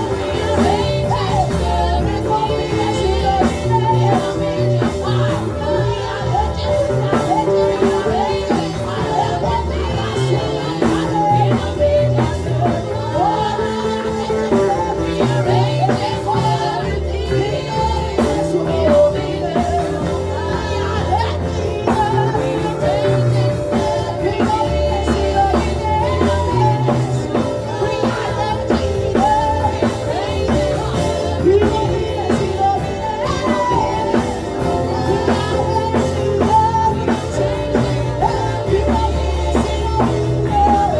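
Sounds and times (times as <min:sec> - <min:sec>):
bass notes: 0:00.0 - 0:40.9
drum beat: 0:00.0 - 0:40.9.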